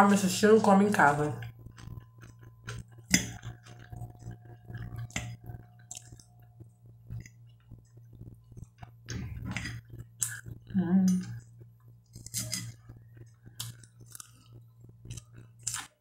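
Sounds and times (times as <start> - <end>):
chewing and wet mouth noises: 1.4 - 9.1, 9.7 - 16.0.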